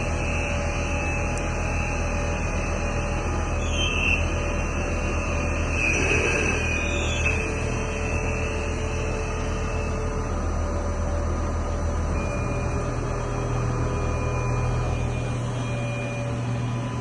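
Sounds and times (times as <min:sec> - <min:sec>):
faint high whine: 0:00.0 - 0:17.0
lathe humming: 0:00.0 - 0:17.0.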